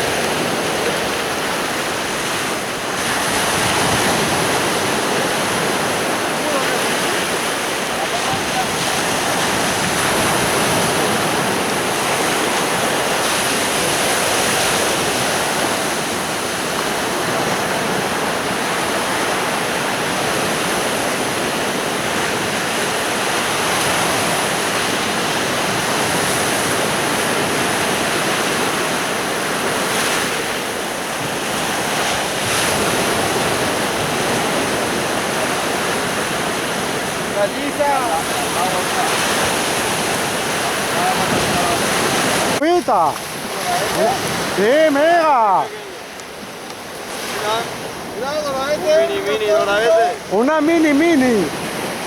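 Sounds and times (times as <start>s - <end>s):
waves washing on sandy beach: 0.0s - 52.0s.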